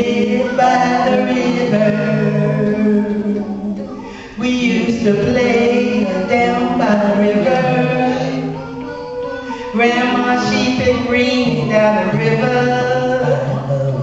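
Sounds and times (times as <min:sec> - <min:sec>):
women singing a cappella harmony: 0:00.0 - 0:14.0.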